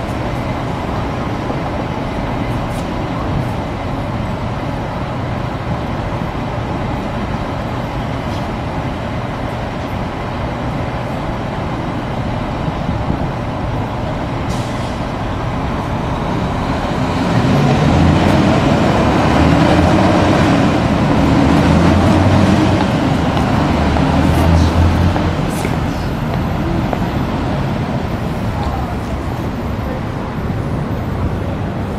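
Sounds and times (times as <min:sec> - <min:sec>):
city street traffic: 0:00.0 - 0:31.9
heavy truck passing: 0:00.0 - 0:31.9.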